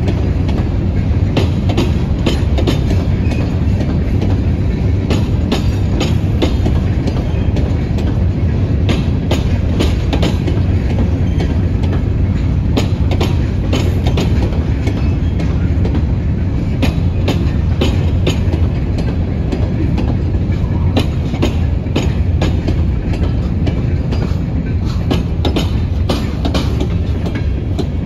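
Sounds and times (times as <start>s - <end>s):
freight cars clanking: 0.0s - 28.0s
train wheels rumbling on rail: 0.0s - 28.0s.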